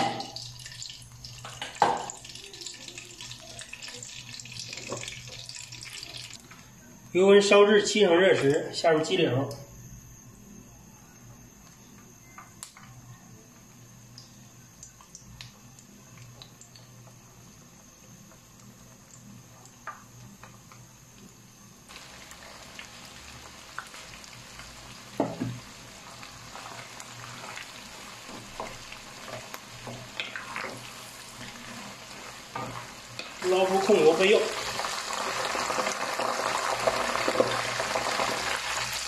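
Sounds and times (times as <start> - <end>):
chicken deep-frying in oil: 0.0 - 6.5, 14.0 - 39.0.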